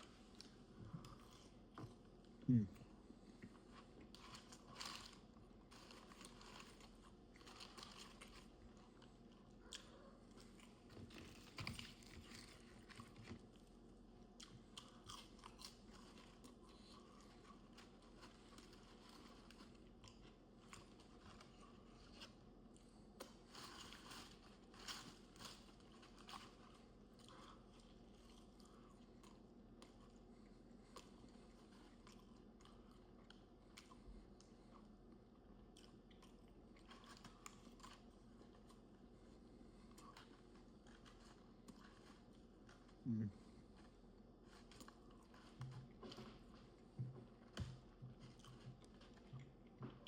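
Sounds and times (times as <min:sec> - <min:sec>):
chewing and crunching food: 0:00.0 - 0:50.0.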